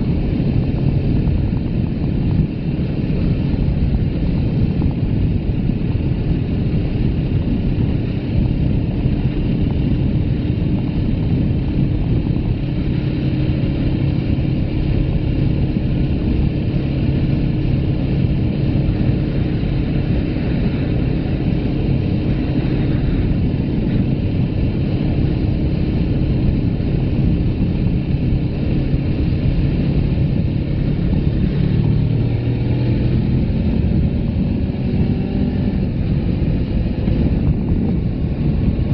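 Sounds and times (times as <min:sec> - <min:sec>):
motorcycle engine cruising: 0:00.0 - 0:38.9
wind rumble on microphone: 0:00.0 - 0:38.9.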